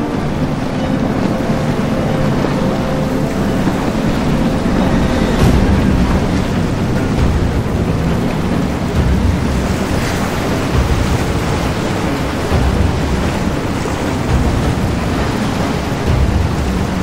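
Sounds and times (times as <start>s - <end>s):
water and surf rushing: 0.0s - 17.0s
wind rumbling on microphone: 0.0s - 17.0s.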